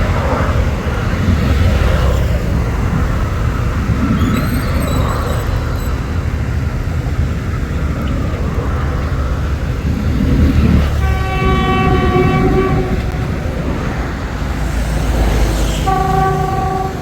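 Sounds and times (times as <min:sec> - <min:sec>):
train rumbling by: 0:00.0 - 0:17.0
high-pitched squeal: 0:00.3 - 0:17.0.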